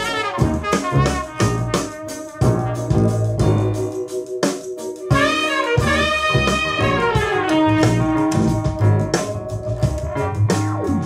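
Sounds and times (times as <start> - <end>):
soul-jazz music through speakers: 0.0 - 11.0.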